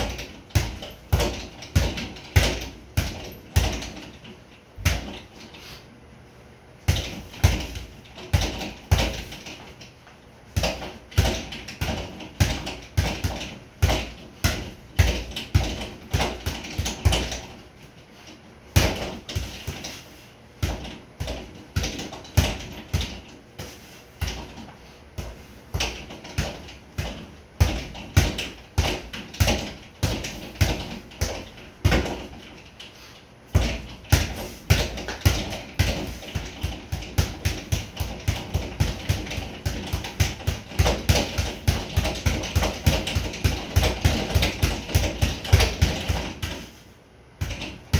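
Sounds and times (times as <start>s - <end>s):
boxing gloves punching bag: 0.0s - 5.6s, 6.8s - 9.9s, 10.5s - 32.8s, 33.5s - 47.9s.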